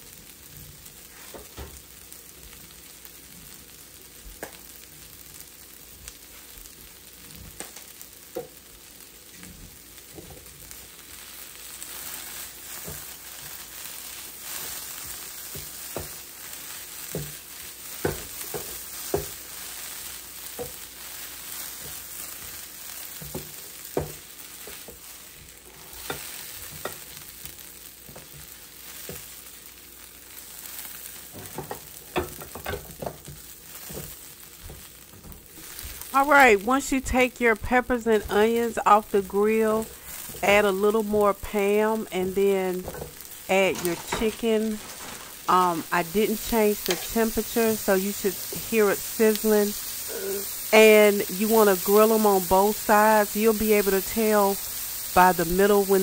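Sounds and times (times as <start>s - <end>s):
vegetables sizzling on griddle: 0.0s - 56.0s.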